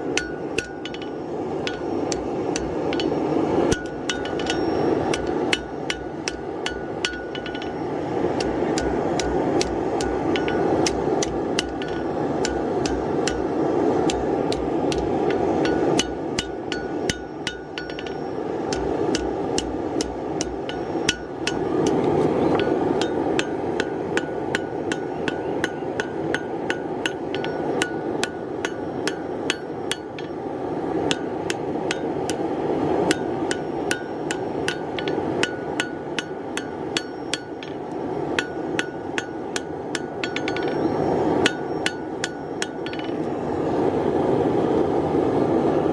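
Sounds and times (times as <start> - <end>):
hammer striking steel on anvil: 0.0 - 30.4, 31.0 - 32.4, 33.0 - 43.3
steady rushing roar: 0.0 - 45.9.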